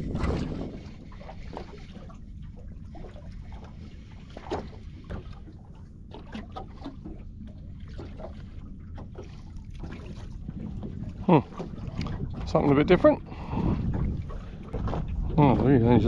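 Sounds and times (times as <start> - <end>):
low rumble: 0.0 - 16.0
water lapping against boat hull: 0.0 - 16.0.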